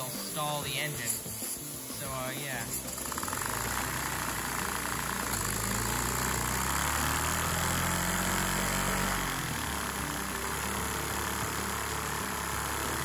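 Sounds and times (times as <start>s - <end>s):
toy vacuum engine running: 0.0s - 13.0s
vacuum cleaner hiss: 0.0s - 13.0s.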